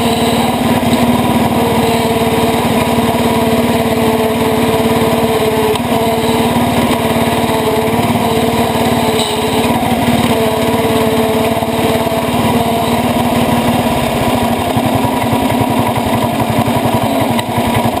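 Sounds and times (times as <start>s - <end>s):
garden tractor engine running: 0.0s - 18.0s
thin whine: 0.0s - 18.0s.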